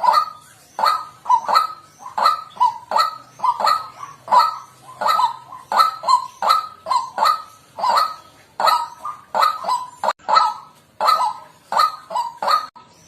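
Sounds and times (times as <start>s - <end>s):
waterhen calling loudly: 0.0s - 12.8s.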